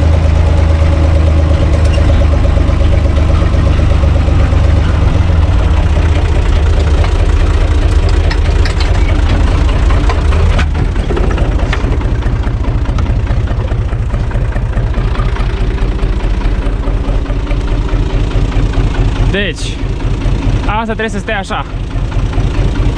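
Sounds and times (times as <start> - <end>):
tractor diesel engine idling: 0.0 - 22.9.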